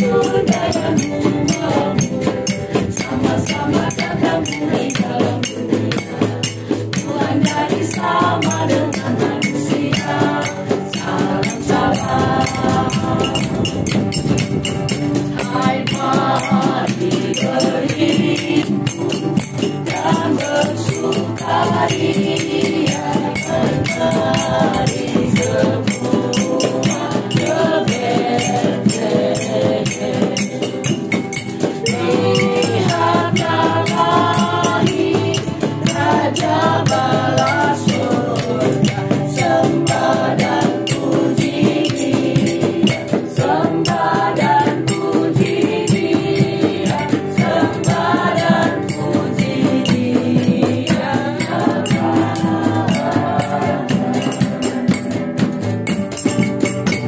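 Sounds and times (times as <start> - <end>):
group of voices singing: 0.0 - 57.0
rattling hand percussion: 0.0 - 57.0.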